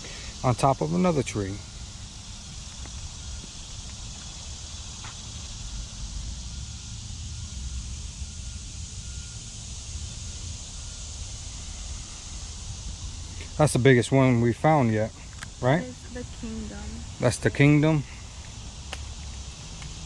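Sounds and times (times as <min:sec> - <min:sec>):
high hum of insects: 0:00.0 - 0:20.0.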